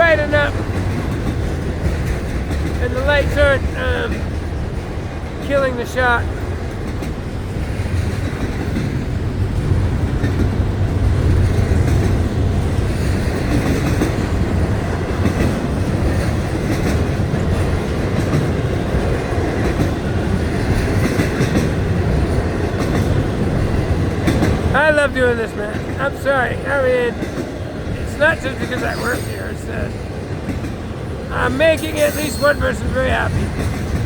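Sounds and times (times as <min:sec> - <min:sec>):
train wheels rumbling on rails: 0:00.0 - 0:34.0
wheels clacking over rail joints: 0:00.0 - 0:34.0.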